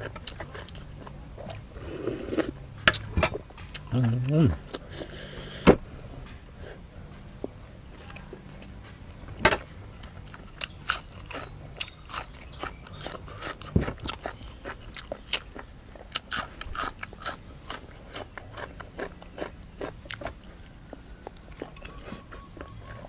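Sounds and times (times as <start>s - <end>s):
man chewing crunchy food: 0.0s - 5.6s, 7.9s - 23.0s.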